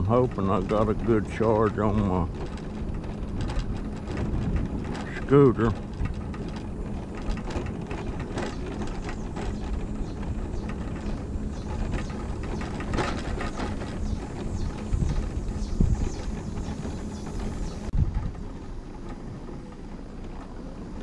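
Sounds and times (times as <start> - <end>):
scooter frame clicking and rattling: 0.0 - 21.0
scooter motor hum: 0.0 - 21.0.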